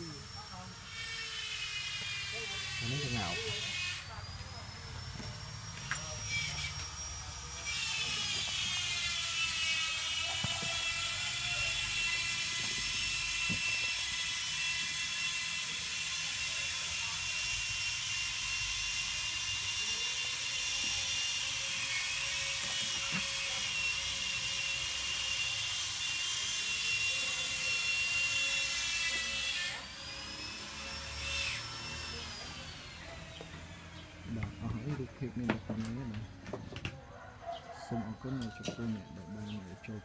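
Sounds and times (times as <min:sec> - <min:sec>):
power tool whine: 0:00.0 - 0:36.6.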